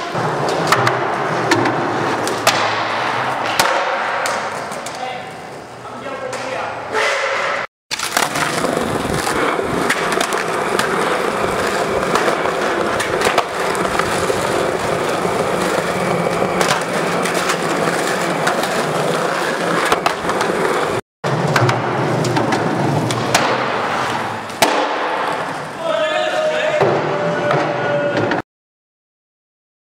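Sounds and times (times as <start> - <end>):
skateboard wheels rolling on concrete: 0.0 - 28.4.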